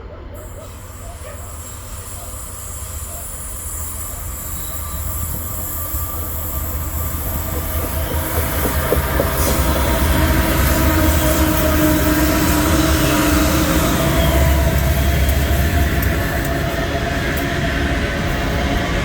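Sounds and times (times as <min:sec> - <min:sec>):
freight train rumble: 0:00.0 - 0:19.0
wheels squealing on rails: 0:00.0 - 0:19.0.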